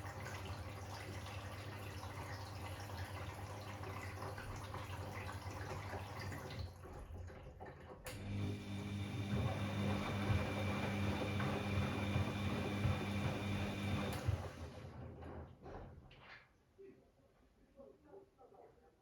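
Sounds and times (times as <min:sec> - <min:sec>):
water splashing in washing machine: 0:00.0 - 0:16.0.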